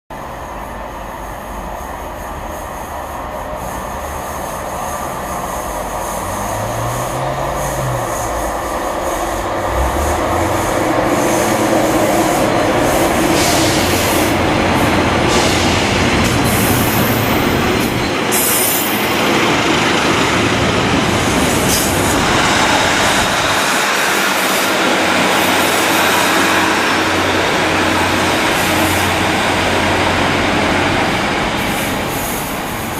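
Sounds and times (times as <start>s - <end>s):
train running on rails: 0.1s - 32.9s.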